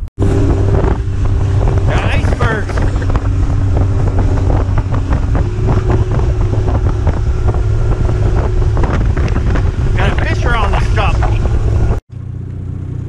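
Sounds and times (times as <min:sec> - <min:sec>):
wind buffeting microphone: 0:00.0 - 0:12.0
boat motor running: 0:00.0 - 0:13.0.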